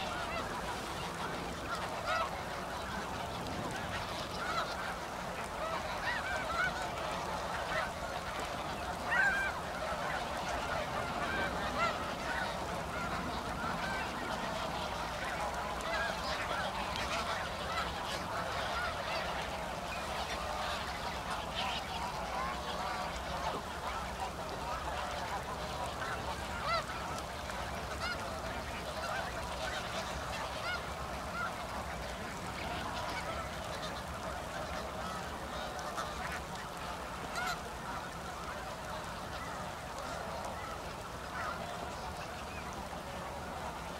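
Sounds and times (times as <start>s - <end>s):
geese honking: 0.0s - 43.9s.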